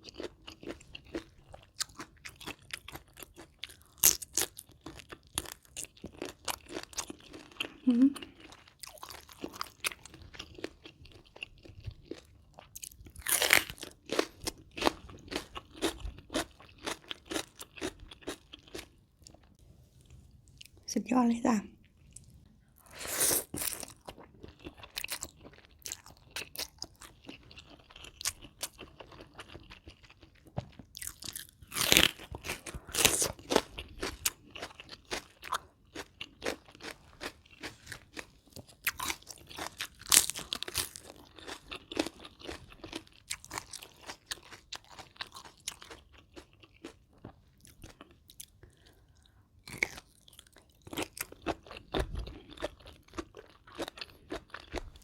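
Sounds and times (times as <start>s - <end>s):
crunching and chewing crisp food: 0.0s - 20.8s, 21.8s - 55.0s.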